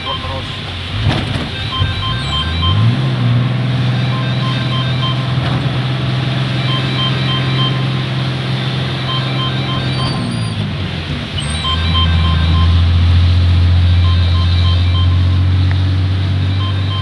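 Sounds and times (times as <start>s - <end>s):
vehicle engine speeding up: 2.0s - 17.0s.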